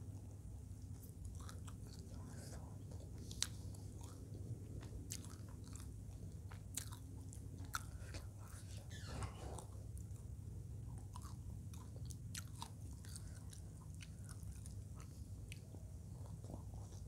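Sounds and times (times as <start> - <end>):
close chewing: 0.2 - 8.8, 10.8 - 17.0.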